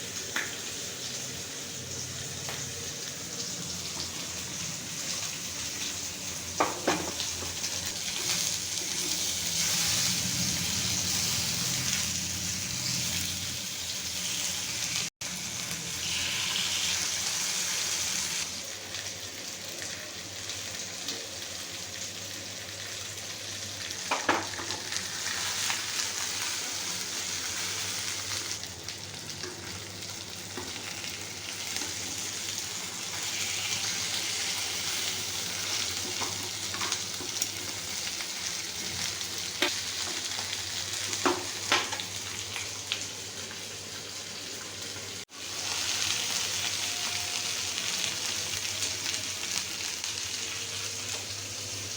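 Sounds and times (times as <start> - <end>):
food sizzling in hot oil: 0.0 - 51.9.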